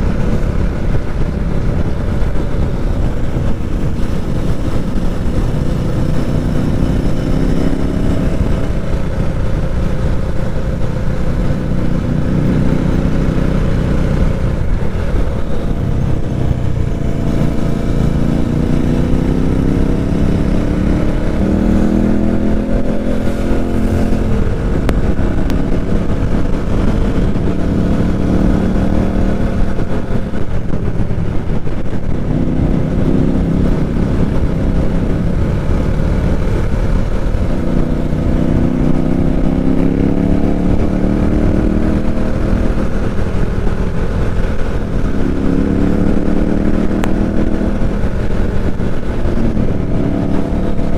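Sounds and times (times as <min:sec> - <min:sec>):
motorcycle engine revving: 0:00.0 - 0:50.9
road and wind rumble: 0:00.0 - 0:50.9.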